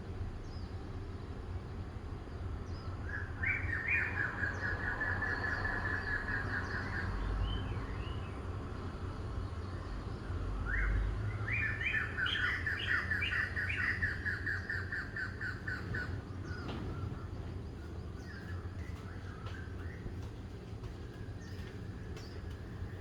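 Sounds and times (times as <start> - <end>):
songbird chirping: 0.4 - 23.0.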